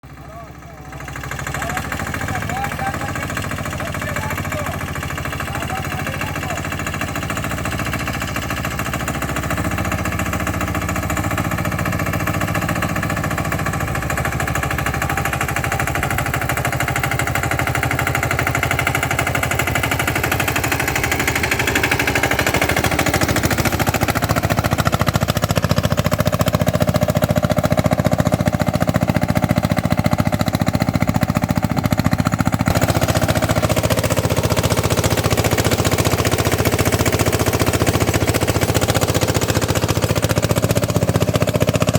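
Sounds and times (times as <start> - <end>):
tractor engine thumping: 0.0 - 41.9.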